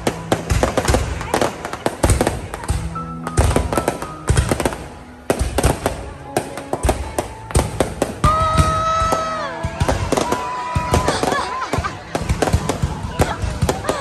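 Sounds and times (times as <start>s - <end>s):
fireworks bangs and crackles: 0.0s - 14.0s
music playing: 0.0s - 14.0s.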